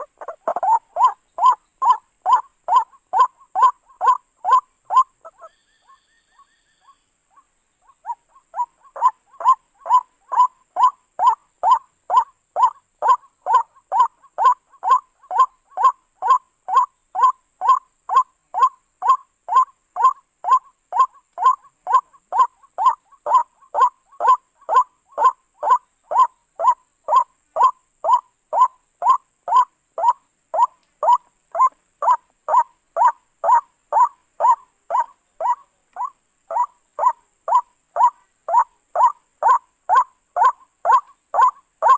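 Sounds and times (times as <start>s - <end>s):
bird calling repeated note: 0.0s - 41.9s.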